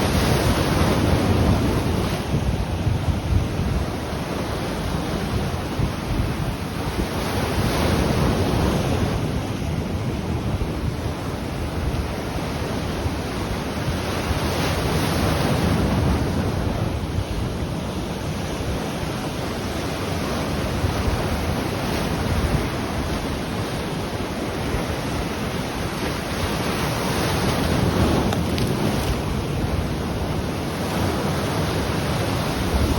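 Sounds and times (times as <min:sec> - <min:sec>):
ocean waves breaking: 0:00.0 - 0:32.9
wind on microphone: 0:00.0 - 0:32.9.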